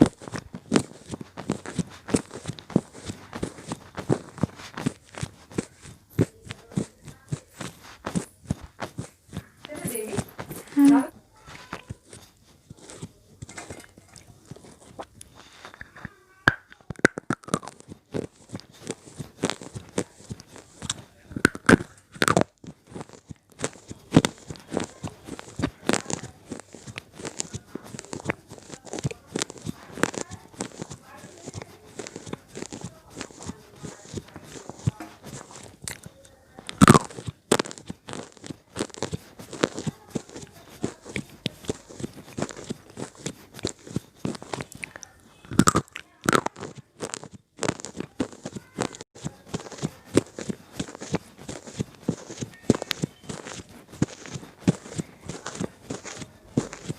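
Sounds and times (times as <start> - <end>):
pencils crunching being chewed: 0.0 - 56.9.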